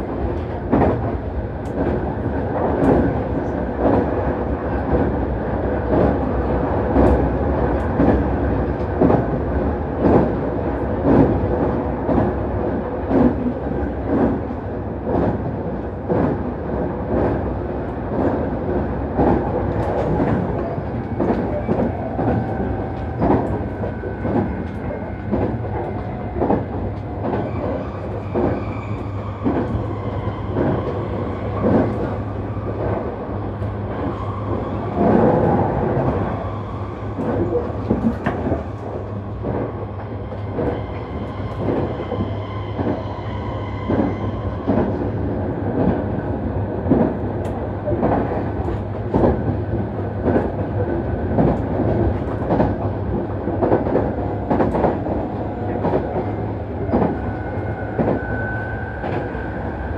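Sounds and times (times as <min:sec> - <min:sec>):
train rumble inside passenger car: 0:00.0 - 0:59.9.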